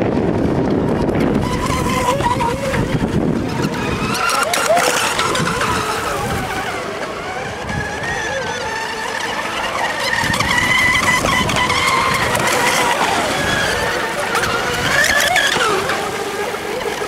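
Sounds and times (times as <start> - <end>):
model boat motors whining: 0.0 - 17.0.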